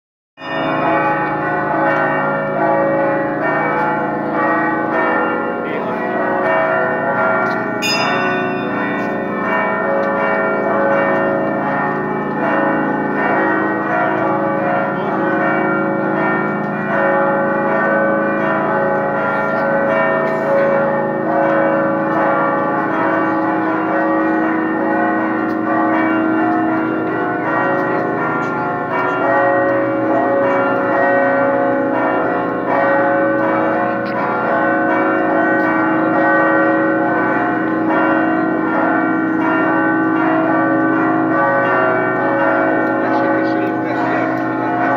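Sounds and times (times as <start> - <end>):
church bells pealing: 0.4 - 44.9.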